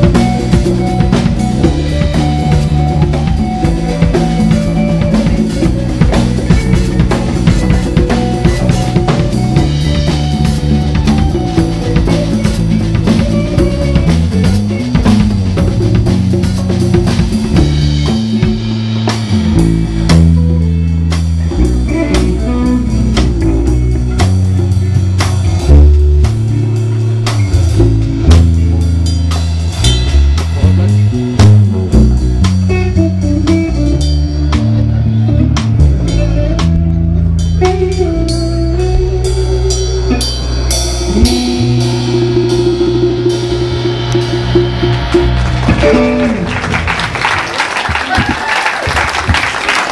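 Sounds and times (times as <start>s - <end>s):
bass guitar: 0.0s - 49.9s
drum kit: 0.0s - 49.9s
electric guitar: 0.0s - 49.9s.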